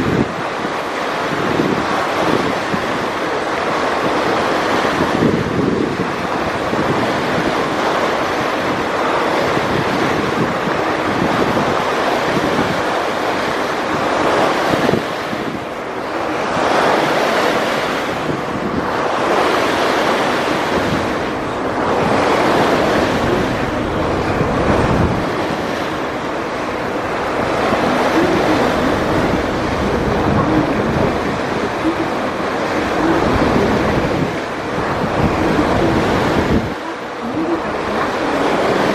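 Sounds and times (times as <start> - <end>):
water washing along hull: 0.0 - 38.9
wind buffeting microphone: 0.0 - 38.9.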